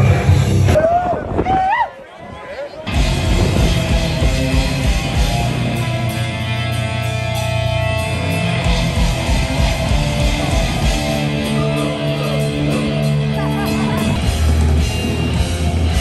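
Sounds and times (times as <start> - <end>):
heavy metal electric guitar music: 2.9 - 16.0.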